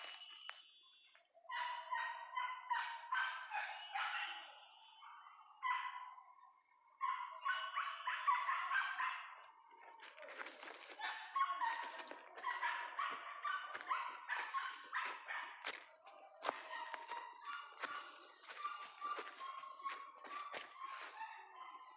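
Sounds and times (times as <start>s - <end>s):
dogs yipping: 1.5s - 6.3s, 7.0s - 21.9s.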